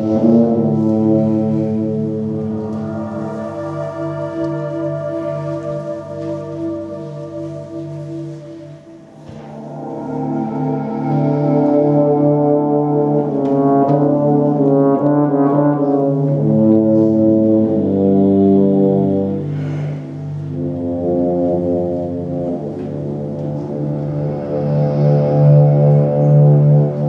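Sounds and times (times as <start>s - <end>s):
steady low drone: 0.0s - 27.0s.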